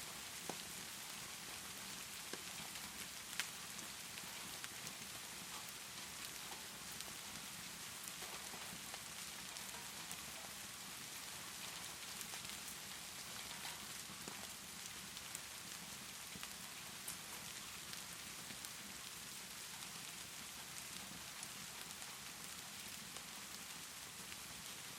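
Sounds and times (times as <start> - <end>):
steady rainfall: 0.0 - 24.9
wood fire crackling: 0.0 - 24.9.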